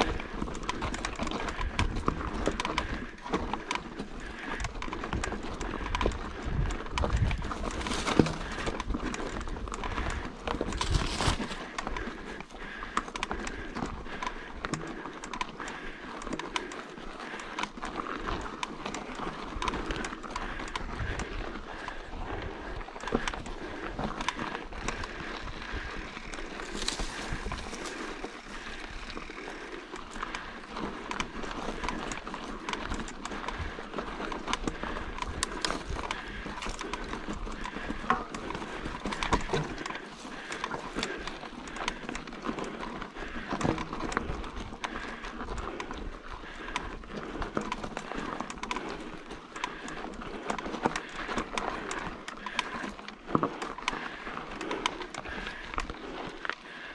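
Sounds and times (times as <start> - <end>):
bike knocking and rattling: 0.0 - 56.9
bike tyres on dirt and rock: 0.0 - 56.9.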